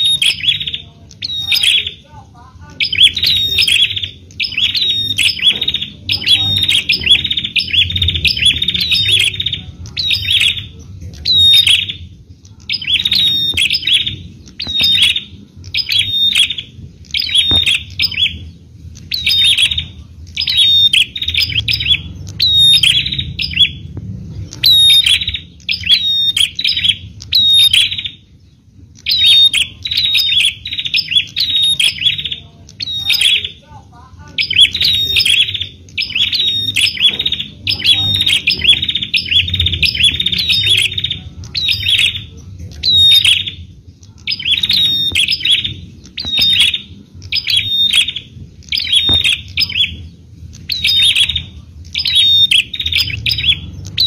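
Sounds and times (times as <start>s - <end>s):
bird sharp high chirping: 0.0s - 54.0s
faint low rumble: 0.0s - 54.0s.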